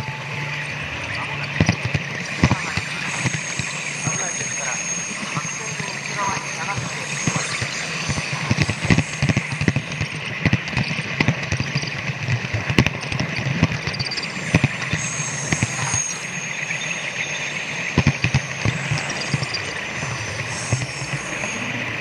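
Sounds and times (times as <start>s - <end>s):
model train running hum: 0.0s - 22.0s.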